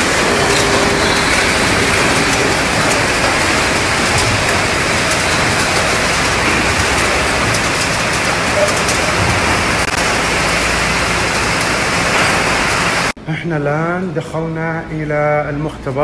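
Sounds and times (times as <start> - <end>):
machinery hiss: 0.0 - 13.2.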